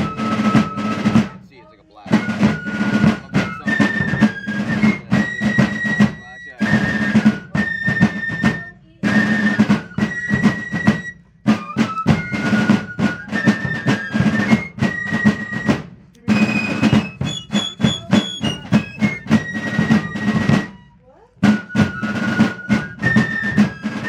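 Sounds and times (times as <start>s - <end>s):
high fife melody: 0.0s - 8.4s, 9.1s - 24.0s
rapid drum strokes: 0.0s - 24.0s.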